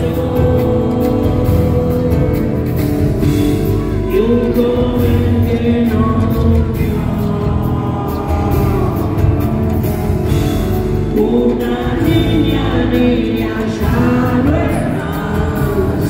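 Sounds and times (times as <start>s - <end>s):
man singing into microphone: 0.0s - 9.8s, 11.0s - 16.0s
rock band playing: 0.0s - 16.0s.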